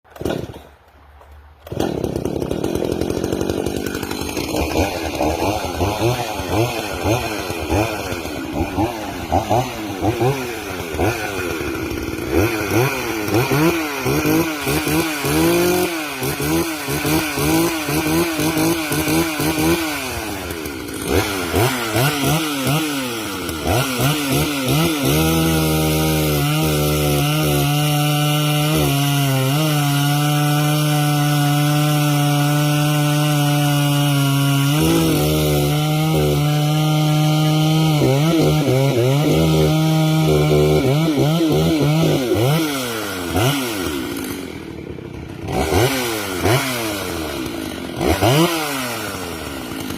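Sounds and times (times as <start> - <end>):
chainsaw revving: 1.6 - 49.9.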